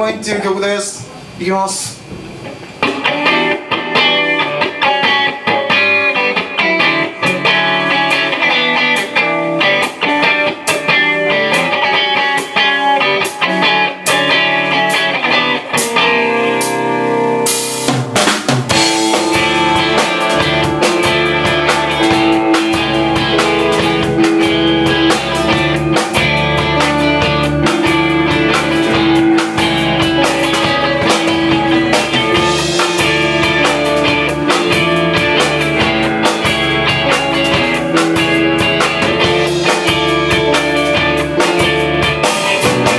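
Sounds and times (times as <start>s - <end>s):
drum kit: 0.0s - 42.9s
bass guitar: 1.0s - 42.9s
electric guitar chords: 2.0s - 42.9s.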